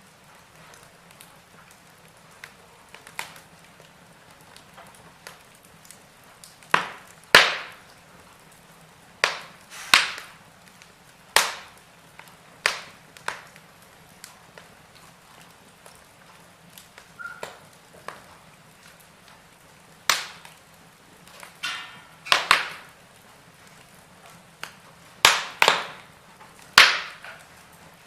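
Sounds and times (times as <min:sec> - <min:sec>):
wood fire crackling in fireplace: 0:00.0 - 0:28.0
loud sharp pops of fire: 0:00.1 - 0:28.0.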